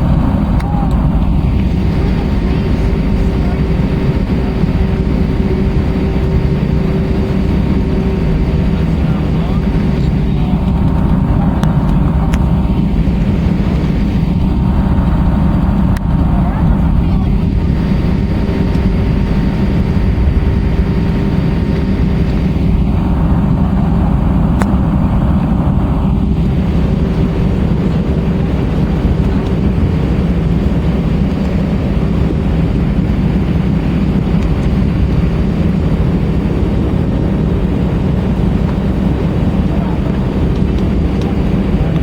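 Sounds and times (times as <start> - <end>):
aircraft cabin engine roar: 0.0 - 42.0.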